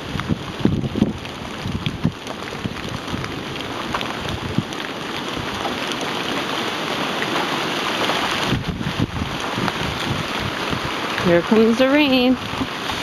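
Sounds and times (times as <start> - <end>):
raindrops striking: 0.0 - 13.0
wind and rain rushing: 0.0 - 13.0.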